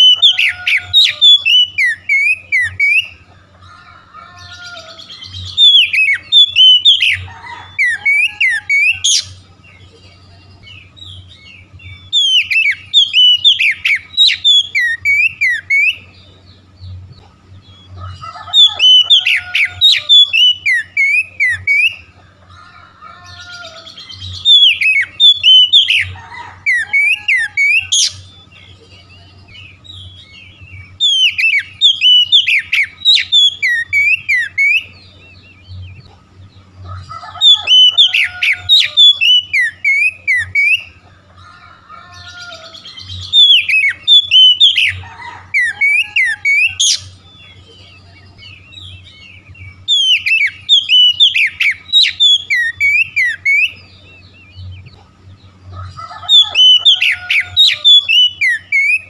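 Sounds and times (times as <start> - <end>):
bird singing whistled phrases: 0.0 - 3.2, 4.6 - 9.4, 10.5 - 16.2, 18.5 - 22.1, 23.4 - 35.7, 37.3 - 40.9, 42.2 - 54.8, 56.2 - 59.0.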